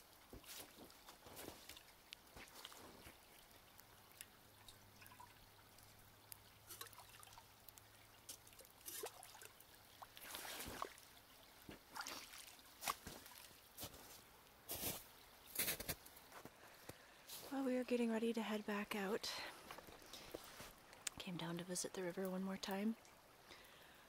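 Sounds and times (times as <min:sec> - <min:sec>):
faint dripping water: 0:00.0 - 0:24.0.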